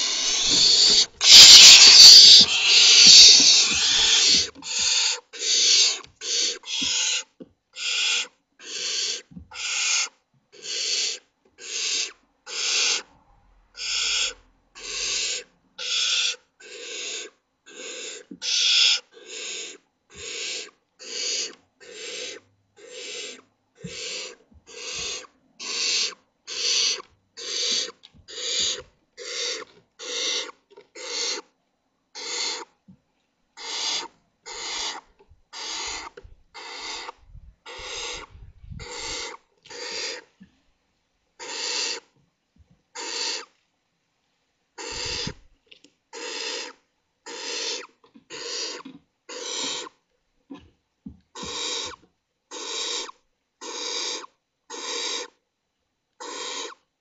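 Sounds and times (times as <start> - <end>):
owl chicks hissing begging calls: 0.0 - 13.1, 13.8 - 31.5, 32.2 - 32.7, 33.6 - 40.3, 41.4 - 42.1, 43.0 - 43.5, 44.8 - 45.4, 46.1 - 50.0, 51.4 - 55.4, 56.2 - 56.8.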